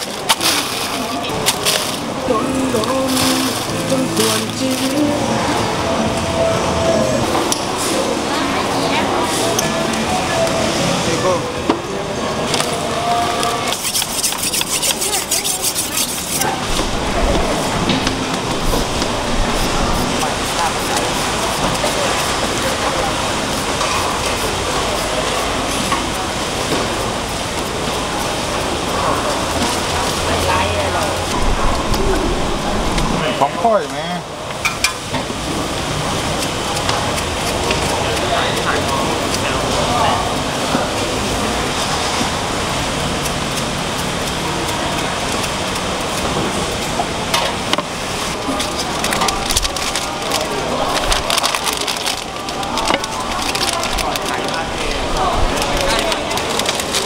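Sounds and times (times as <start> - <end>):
indistinct voices: 0.0 - 57.0
market bustle: 0.0 - 57.0.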